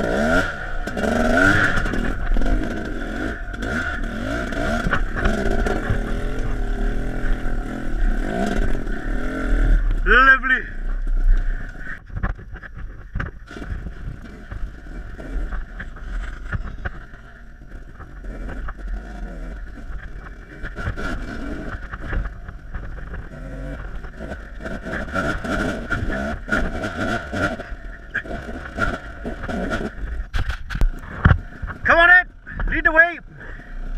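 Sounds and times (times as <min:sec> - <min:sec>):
dirt bike engine revving: 0:00.0 - 0:33.9
knocks and clatter over rough ground: 0:00.0 - 0:33.9.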